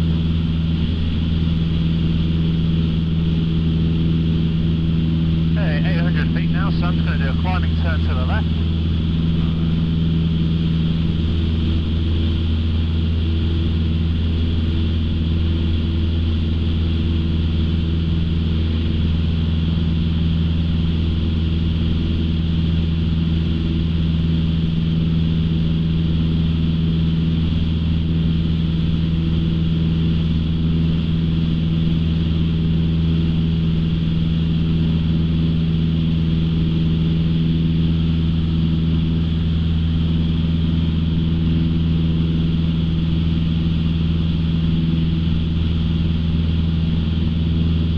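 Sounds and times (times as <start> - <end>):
light aircraft engine droning: 0.0 - 47.9.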